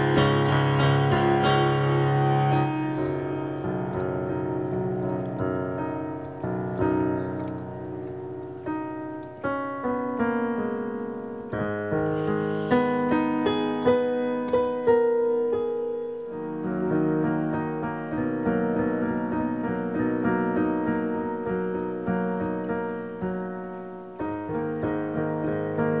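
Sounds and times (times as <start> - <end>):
piano improvisation: 0.0 - 26.0.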